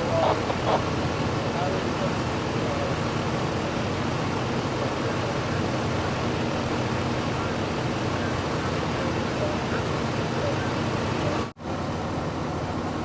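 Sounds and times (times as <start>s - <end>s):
low engine hum: 0.0s - 13.0s
street traffic noise: 0.0s - 13.0s.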